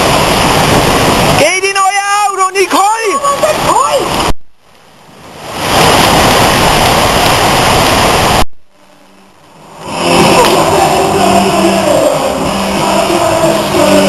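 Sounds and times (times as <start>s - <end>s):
storm wind and rain: 0.0s - 14.0s.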